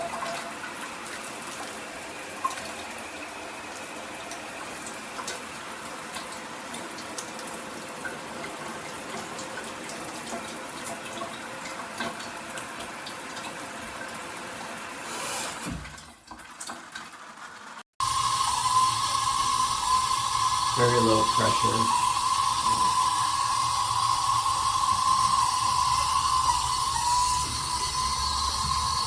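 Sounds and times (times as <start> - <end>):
shower spraying water: 0.0 - 29.0.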